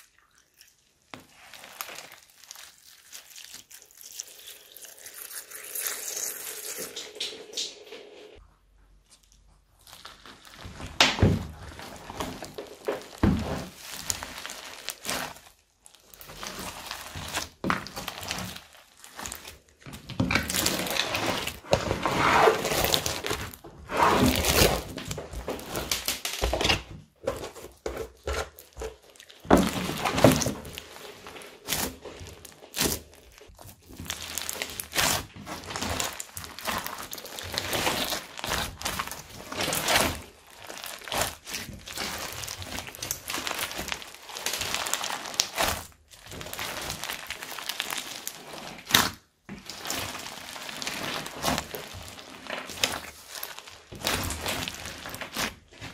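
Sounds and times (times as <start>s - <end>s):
sticky slime squelches: 0.0s - 7.2s, 8.4s - 55.9s.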